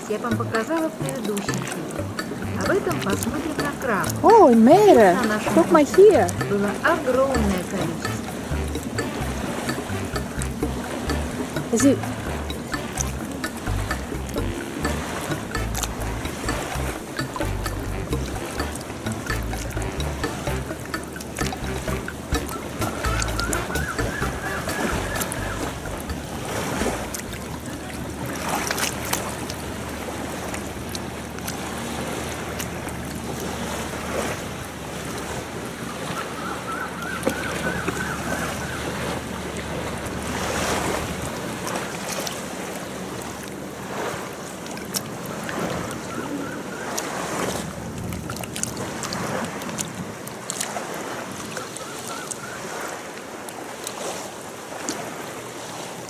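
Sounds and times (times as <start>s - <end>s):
surf washing against shore: 0.0s - 56.0s.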